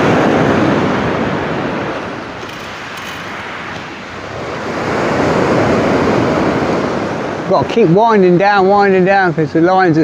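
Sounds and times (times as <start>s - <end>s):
surf breaking on beach: 0.0s - 8.8s
wind buffeting microphone: 0.0s - 9.9s.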